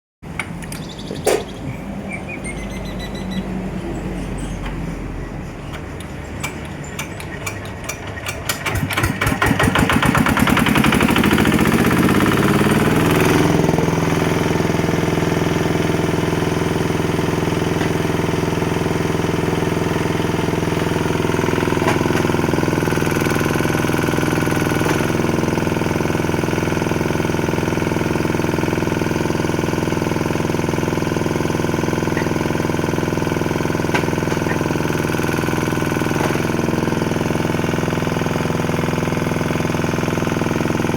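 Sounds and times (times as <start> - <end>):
engine starting and idling: 4.5 - 40.9.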